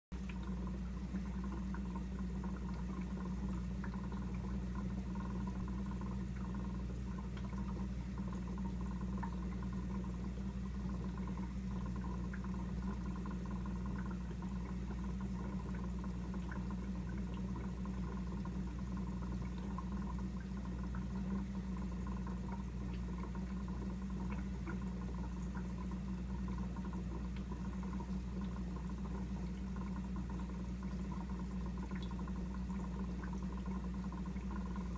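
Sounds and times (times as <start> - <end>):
aquarium air bubbles: 0.2 - 34.9.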